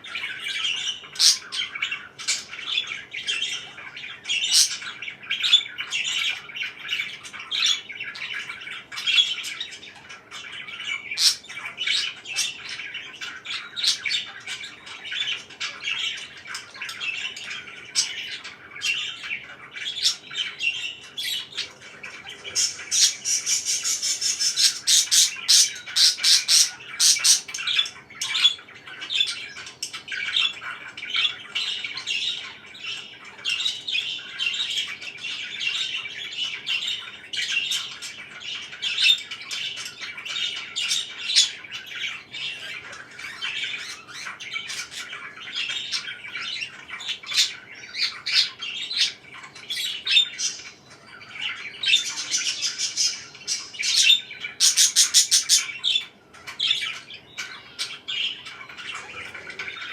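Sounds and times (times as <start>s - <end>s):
parakeets chirping: 0.0s - 59.9s.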